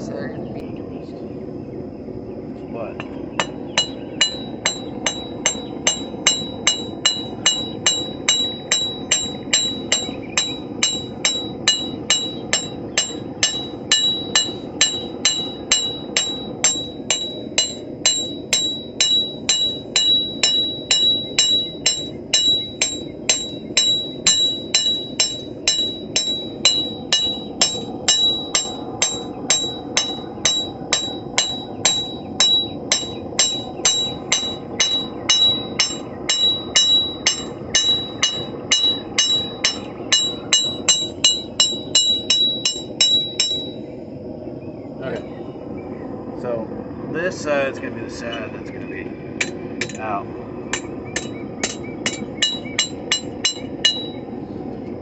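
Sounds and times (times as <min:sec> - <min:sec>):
hammer striking steel on anvil: 0:03.0 - 0:43.8, 0:49.4 - 0:50.1, 0:50.7 - 0:54.2.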